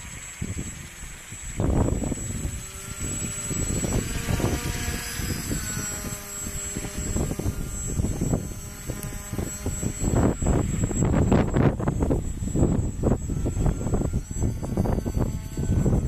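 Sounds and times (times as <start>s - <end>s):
model aircraft motor whining: 0.0s - 16.0s
wind rumble on microphone: 0.0s - 16.0s.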